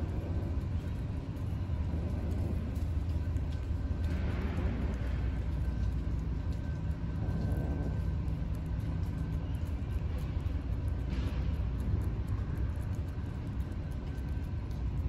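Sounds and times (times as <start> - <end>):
cat licking with wet clicks: 0.0 - 15.0
steady low rumble: 0.0 - 15.0.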